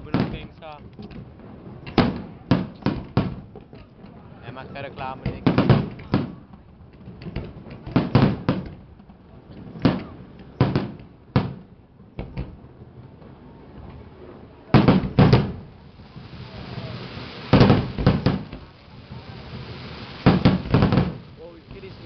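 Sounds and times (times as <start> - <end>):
fireworks exploding: 0.0 - 22.0.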